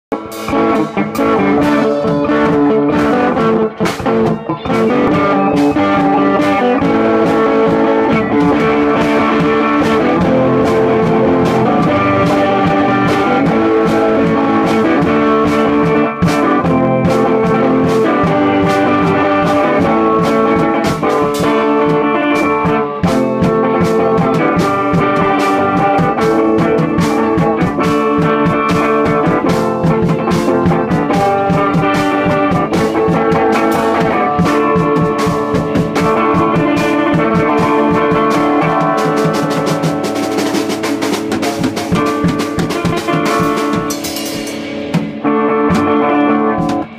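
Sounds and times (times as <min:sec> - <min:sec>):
drum kit steady beat: 0:00.1 - 0:46.9
electric guitars: 0:00.1 - 0:46.9.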